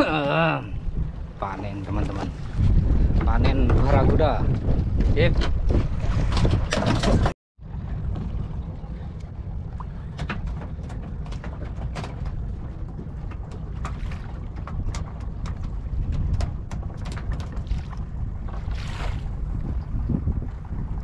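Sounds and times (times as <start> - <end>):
boat engine low rumble: 0.0 - 21.0
water slapping against hull: 0.8 - 21.0.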